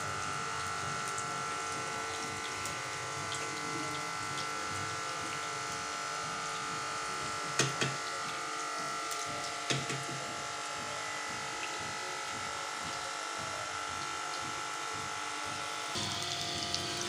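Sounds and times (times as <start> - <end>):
food sizzling in frying oil: 0.0 - 17.0.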